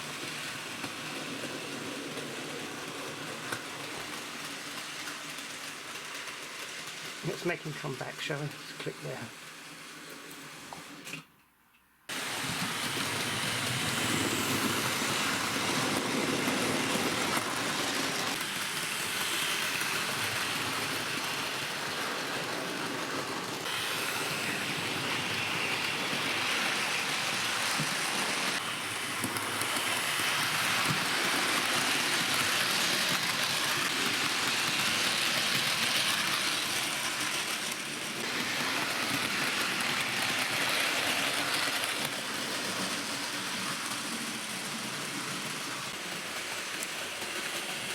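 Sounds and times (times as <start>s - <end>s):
model train whirring on rails: 0.0s - 11.2s, 12.1s - 47.9s.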